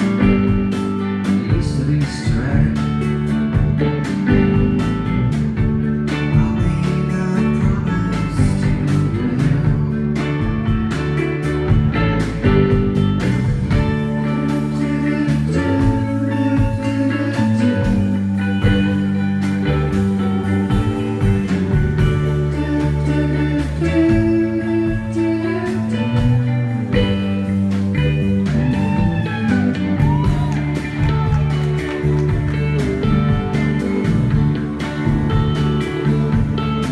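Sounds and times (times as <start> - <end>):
bass guitar: 0.0 - 36.9
drums: 0.0 - 36.9
electric guitar: 0.0 - 36.9.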